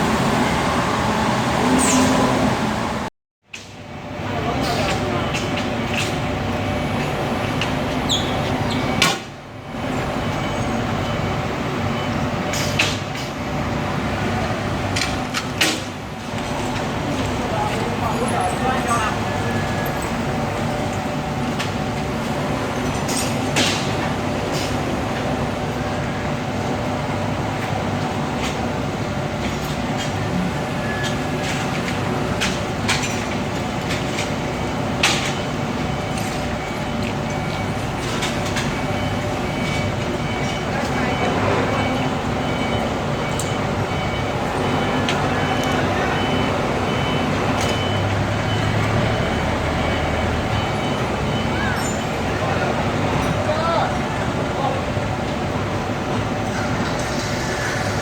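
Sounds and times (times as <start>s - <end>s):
machinery rumble and hum: 0.0s - 58.0s.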